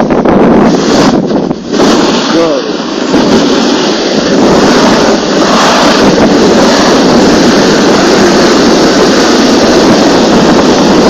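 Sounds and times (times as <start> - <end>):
sled scraping over snow: 0.0 - 11.0
wind on microphone: 0.0 - 11.0.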